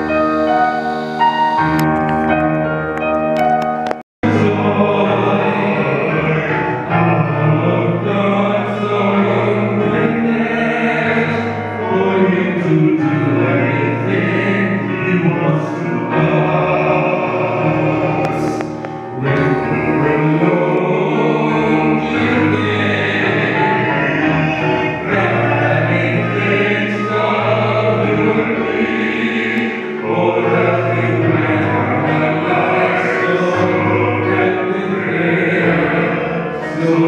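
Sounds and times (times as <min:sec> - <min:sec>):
electronic keyboard chords: 0:00.0 - 0:37.0
man and woman singing together: 0:04.3 - 0:37.0.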